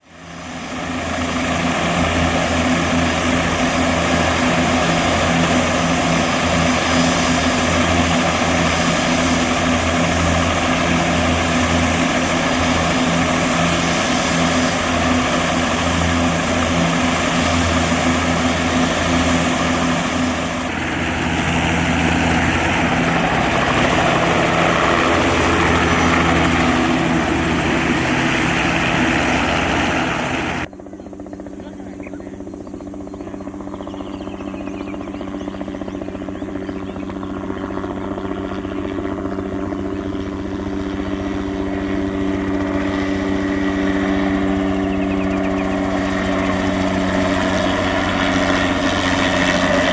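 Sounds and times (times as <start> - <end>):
helicopter rotor throb: 0.0 - 49.9
turboshaft engine high whine: 0.0 - 49.9.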